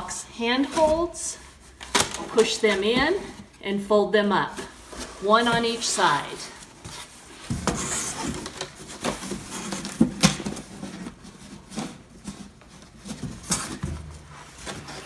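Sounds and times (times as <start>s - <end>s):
cardboard creasing and scuffing: 0.6s - 3.5s, 4.5s - 15.0s.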